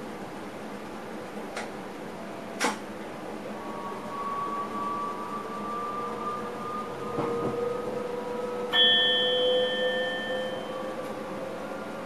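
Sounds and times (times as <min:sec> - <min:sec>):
electric train traction whine: 0:00.0 - 0:12.0
train running noise: 0:00.0 - 0:12.0.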